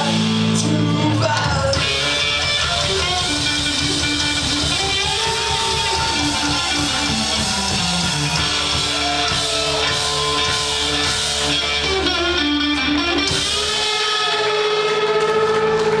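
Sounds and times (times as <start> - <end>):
live band with guitar: 0.0 - 16.0.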